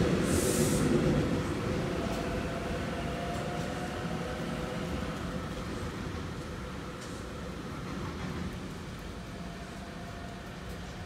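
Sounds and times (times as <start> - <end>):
train rumble pulling away: 0.0 - 11.0.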